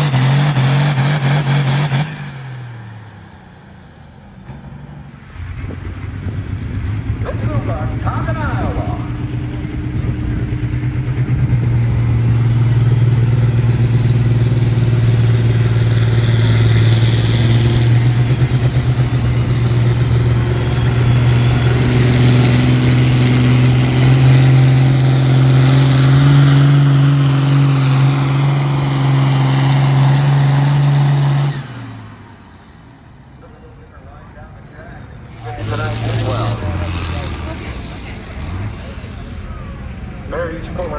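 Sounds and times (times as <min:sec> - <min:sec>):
engine running at high revs: 0:00.0 - 0:40.9.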